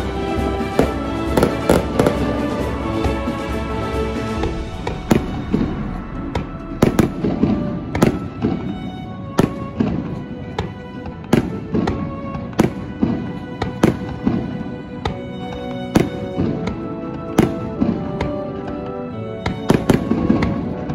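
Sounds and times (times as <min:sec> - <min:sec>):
background music sustained tones: 0:00.0 - 0:20.9
fireworks bursting: 0:00.0 - 0:20.9.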